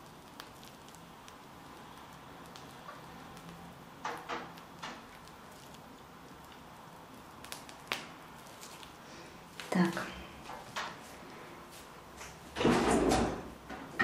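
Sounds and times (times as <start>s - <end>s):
piping bag frosting squelches: 0.0s - 12.5s.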